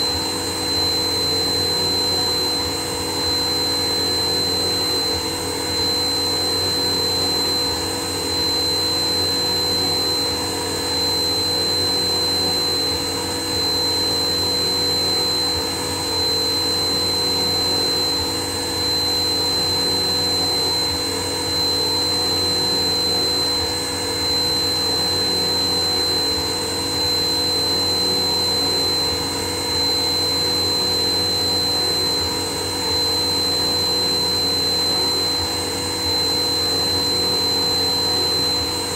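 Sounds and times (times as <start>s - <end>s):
cnc machine droning and whining: 0.0s - 38.9s.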